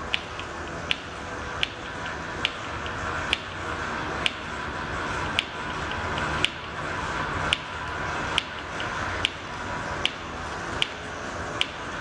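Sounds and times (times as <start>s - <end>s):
workshop hum: 0.0s - 12.0s.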